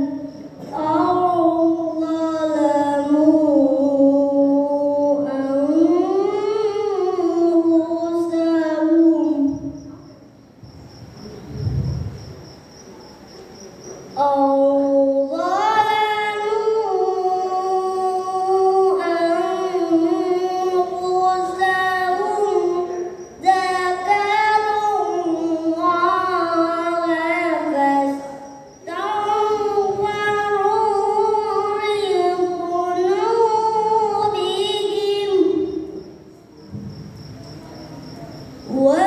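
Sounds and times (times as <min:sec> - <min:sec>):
boy reciting melodically: 0:00.0 - 0:39.0.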